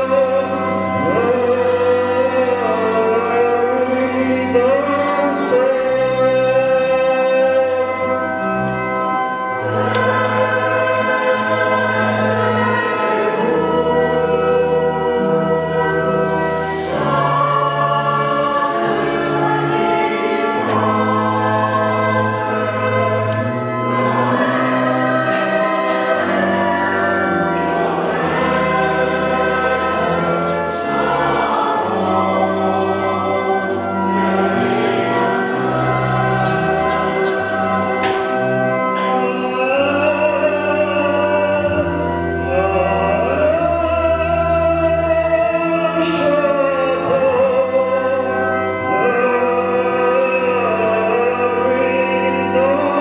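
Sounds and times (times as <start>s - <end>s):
church choir singing: 0.0s - 53.0s
organ bass notes: 0.0s - 53.0s.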